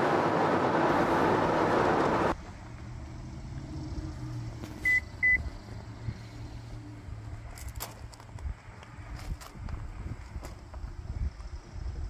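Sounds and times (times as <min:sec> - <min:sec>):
road noise inside moving car: 0:00.0 - 0:12.0.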